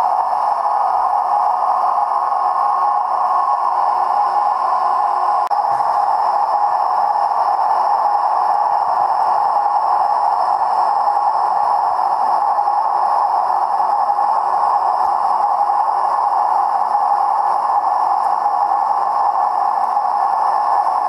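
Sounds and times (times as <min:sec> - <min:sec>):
model train motor whirring: 0:00.0 - 0:21.0.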